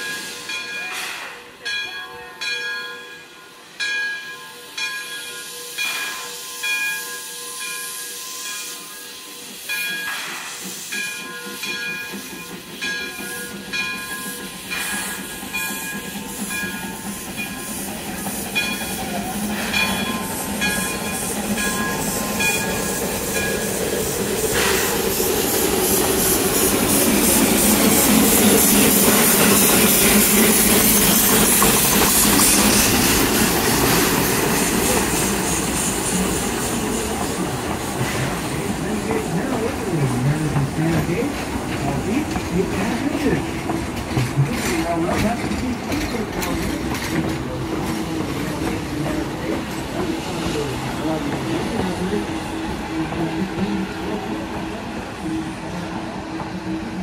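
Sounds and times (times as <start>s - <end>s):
steam locomotive hissing: 0.0s - 57.0s
sharp steam chuffs: 5.3s - 57.0s.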